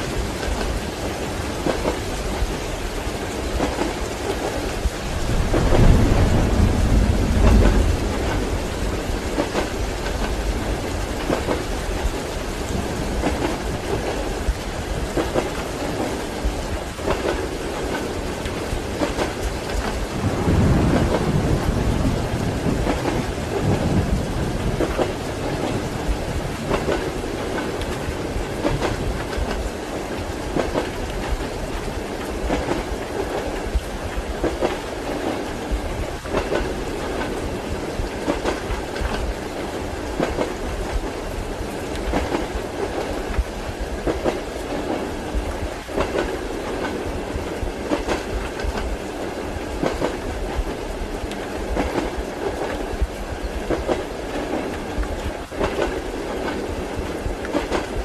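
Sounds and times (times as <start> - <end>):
train rumbling: 0.0 - 58.0
train wheels clickety-clack: 0.0 - 58.0.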